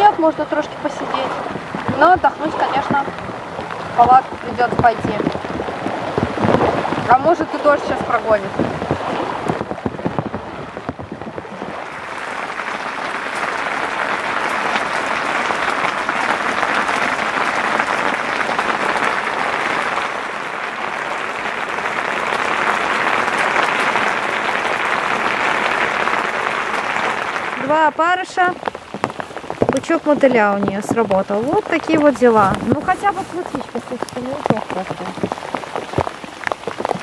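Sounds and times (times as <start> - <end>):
rain on tent fabric: 0.0 - 37.0.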